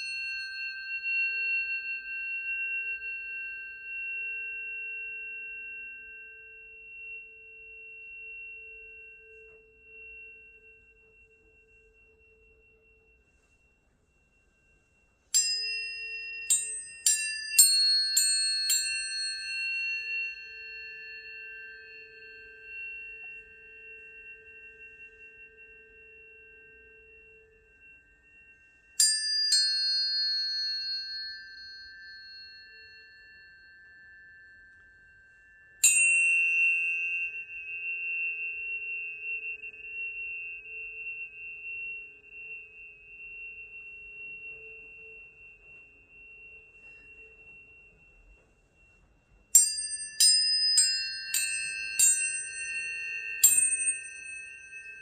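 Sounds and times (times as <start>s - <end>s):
tuning forks ringing: 0.0s - 55.0s.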